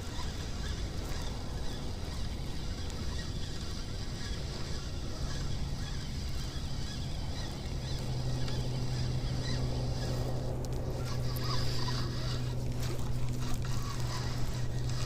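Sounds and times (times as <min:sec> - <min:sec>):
distant motor humming: 0:00.0 - 0:15.0
wind hiss: 0:00.0 - 0:15.0.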